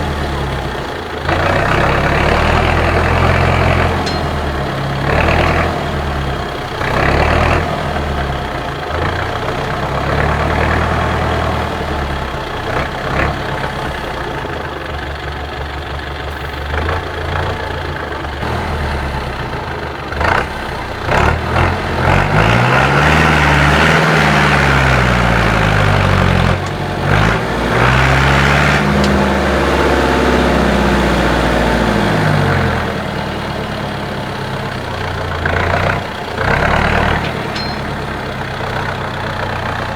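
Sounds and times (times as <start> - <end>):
truck diesel engine revving: 0.0 - 39.9.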